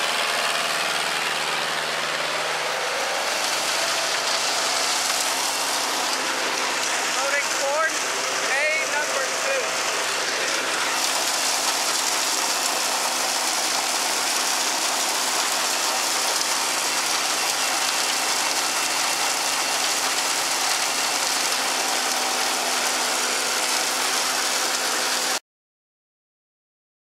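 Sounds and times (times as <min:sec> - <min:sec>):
chopped corn pouring: 0:00.0 - 0:25.4
machine drone: 0:00.0 - 0:25.4.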